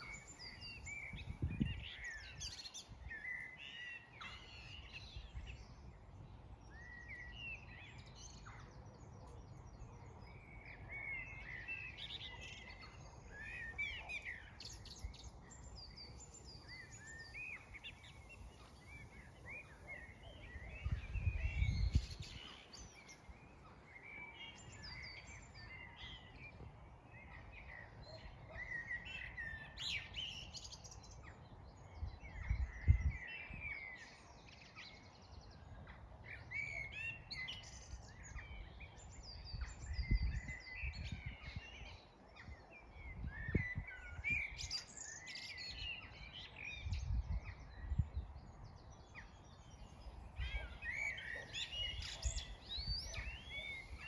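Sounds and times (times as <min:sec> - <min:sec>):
wind rumbling on microphone: 0:00.0 - 0:03.8, 0:04.5 - 0:07.1, 0:14.3 - 0:27.6, 0:29.4 - 0:34.3, 0:35.2 - 0:54.0
songbirds singing and chirping: 0:00.0 - 0:54.0.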